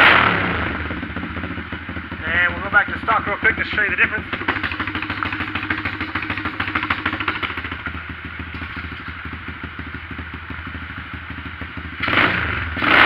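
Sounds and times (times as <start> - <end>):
motorbike engine idling: 0.6 - 12.8.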